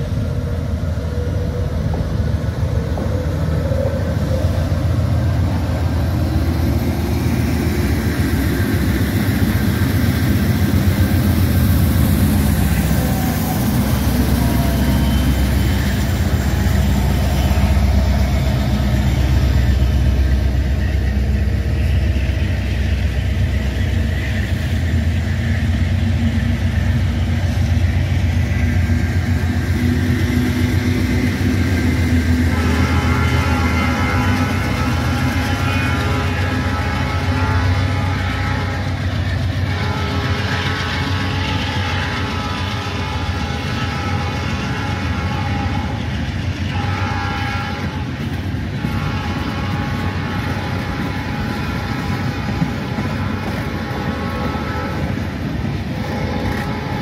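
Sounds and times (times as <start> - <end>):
locomotive engine rumble: 0.0 - 57.0
wheels rolling on rail: 0.0 - 57.0.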